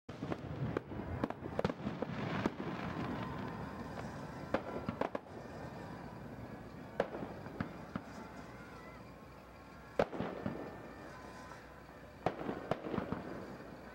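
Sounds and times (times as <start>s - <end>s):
fireworks bursting: 0.1s - 13.9s.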